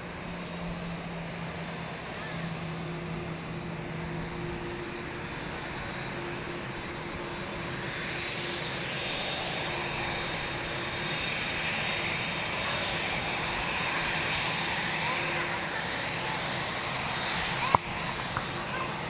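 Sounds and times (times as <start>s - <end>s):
jet engines at low power: 0.0s - 19.0s.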